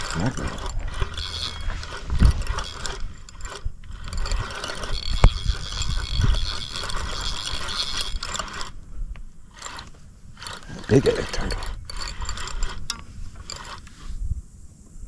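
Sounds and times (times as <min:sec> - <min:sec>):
fishing reel cranking: 0:00.0 - 0:08.8, 0:09.4 - 0:14.3.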